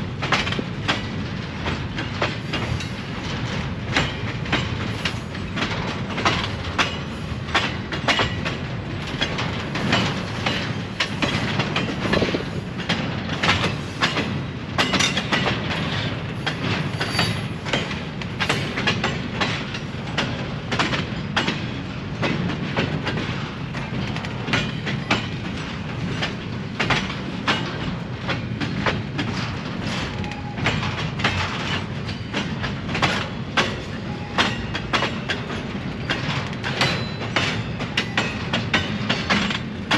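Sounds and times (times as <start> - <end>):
train rumble: 0.0 - 39.9
train wheels clacking over rails: 0.0 - 39.9.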